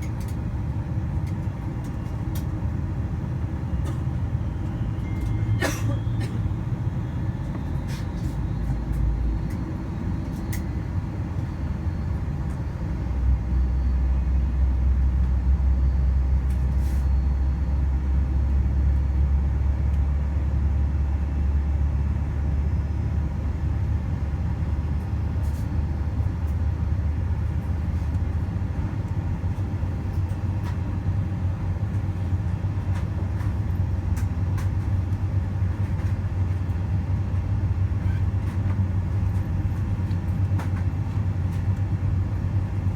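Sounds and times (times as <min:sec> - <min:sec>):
aircraft cabin engine rumble: 0:00.0 - 0:42.9.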